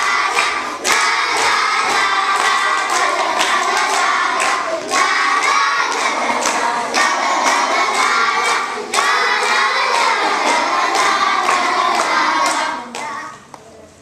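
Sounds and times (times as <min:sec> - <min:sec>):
hands clapping to a beat: 0:00.0 - 0:13.7
young children singing: 0:00.0 - 0:14.0.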